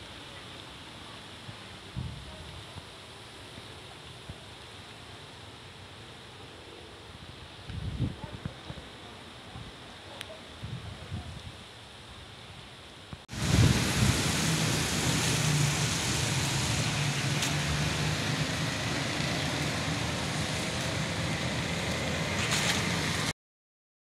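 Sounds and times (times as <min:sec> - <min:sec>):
tyre hiss on wet street: 0:00.0 - 0:23.3.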